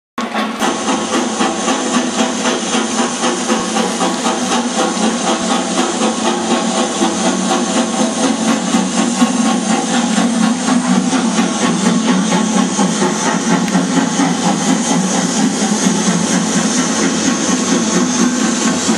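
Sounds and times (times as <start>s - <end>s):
steam hissing: 0.2s - 18.9s
steam locomotive chuffing: 0.2s - 18.9s.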